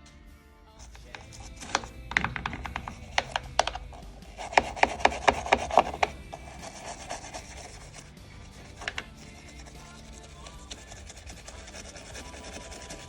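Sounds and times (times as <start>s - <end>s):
hand tool scraping clicks and rasps: 0.8s - 13.0s.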